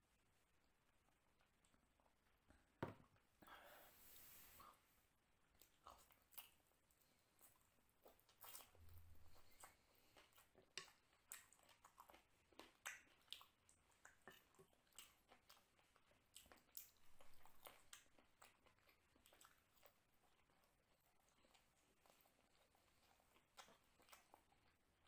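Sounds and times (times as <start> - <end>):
faint chewing and mouth clicks: 0.1 - 3.3, 5.4 - 25.0.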